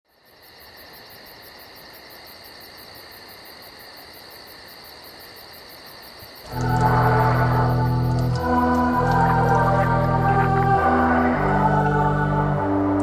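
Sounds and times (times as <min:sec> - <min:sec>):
crickets chirping: 0:00.1 - 0:13.0.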